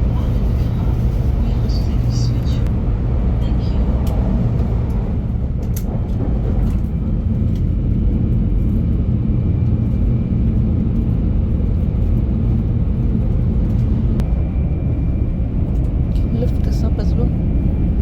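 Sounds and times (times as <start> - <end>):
low rumble of train: 0.0 - 18.0.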